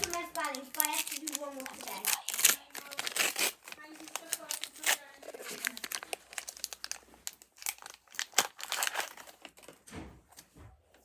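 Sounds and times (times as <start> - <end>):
wrapper crinkling and tearing: 0.0 - 9.8.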